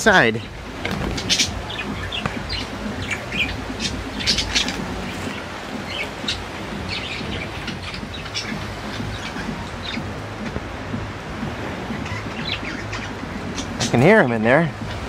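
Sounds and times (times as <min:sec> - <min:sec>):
birds chirping: 0:00.0 - 0:15.0
wind rumble on microphone: 0:00.0 - 0:15.0.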